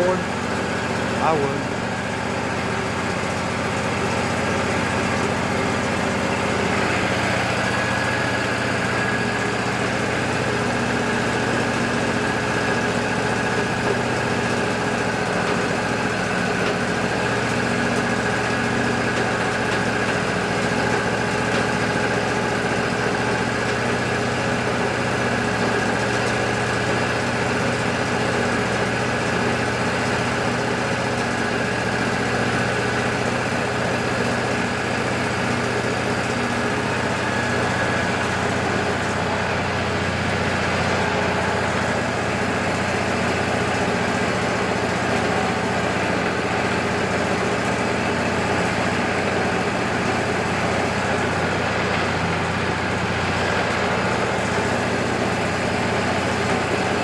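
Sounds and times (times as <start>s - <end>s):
sawmill engine drone: 0.0s - 57.0s.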